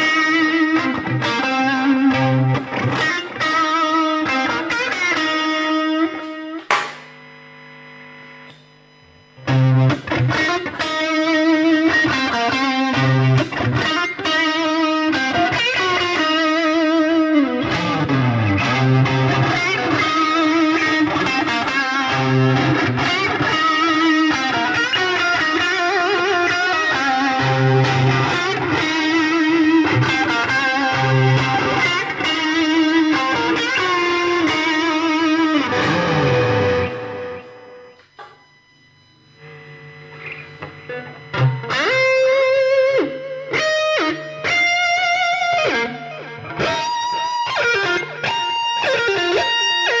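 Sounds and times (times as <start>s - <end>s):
backing track with bass: 0.0s - 39.0s, 39.8s - 50.0s
distorted electric guitar: 0.0s - 50.0s.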